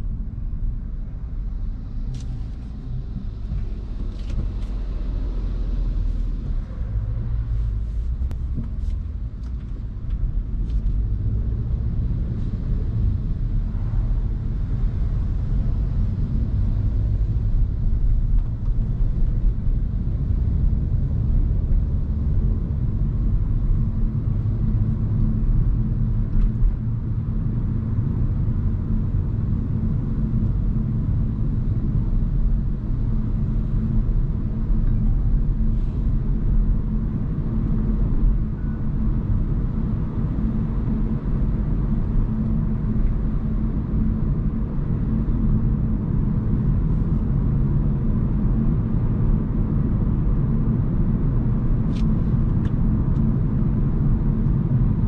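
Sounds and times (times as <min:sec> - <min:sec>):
road and tyre rumble: 0:00.0 - 0:55.0.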